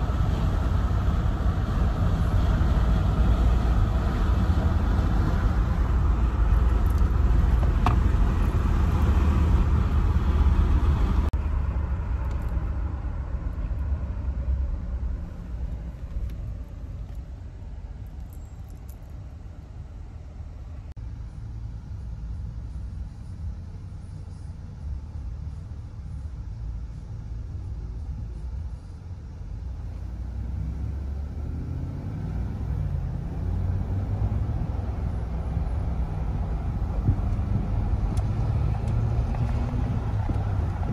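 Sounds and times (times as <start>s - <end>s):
road and wind rumble in car: 0.0s - 40.9s.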